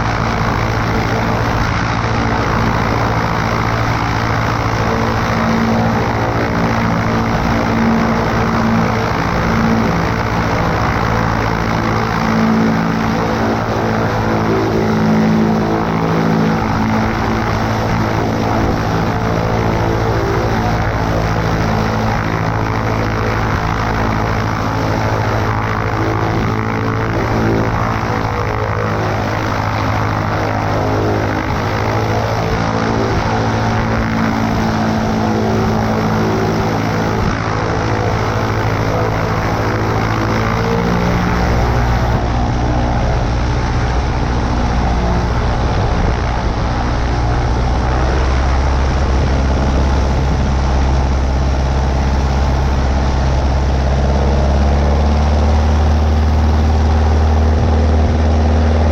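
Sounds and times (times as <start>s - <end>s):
deep low drone: 0.0s - 58.9s
propeller plane engine: 0.0s - 58.9s.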